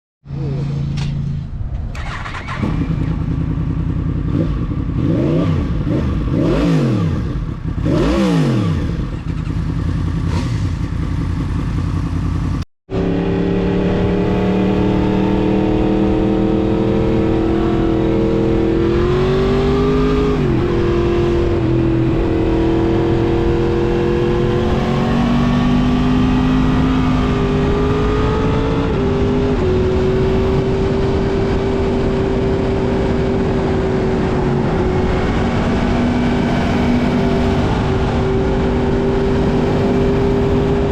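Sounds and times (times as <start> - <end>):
motorcycle engine revving: 0.3 - 40.9.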